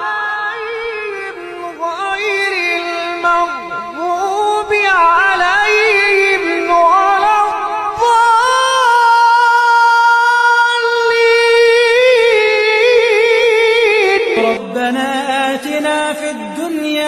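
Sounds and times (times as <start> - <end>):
person chanting melodic recitation: 0.0 - 17.0.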